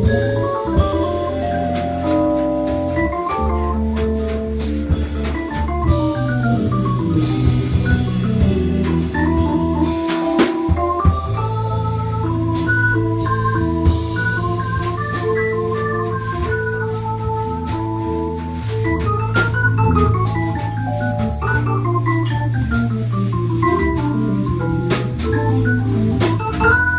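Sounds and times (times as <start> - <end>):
drum kit cymbal and snare: 0.0 - 26.9
organ chords: 0.0 - 26.9
vibraphone notes: 0.0 - 26.9
walking bass line: 0.0 - 26.9.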